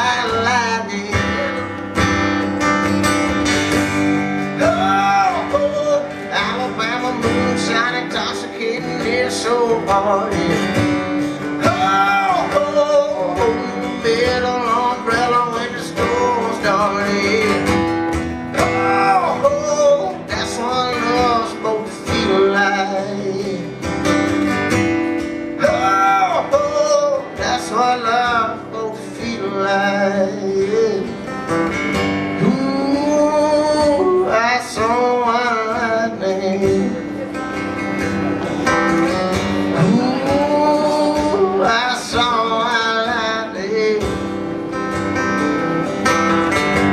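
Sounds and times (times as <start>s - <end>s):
man singing: 0.0s - 2.6s, 4.2s - 24.1s, 25.5s - 31.5s, 32.2s - 37.6s, 38.3s - 46.2s
acoustic guitar strummed: 0.0s - 46.9s.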